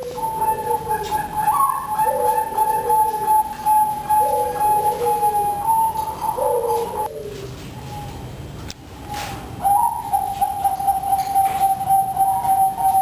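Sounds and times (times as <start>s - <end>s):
doves cooing: 0.0s - 8.3s, 9.1s - 13.0s.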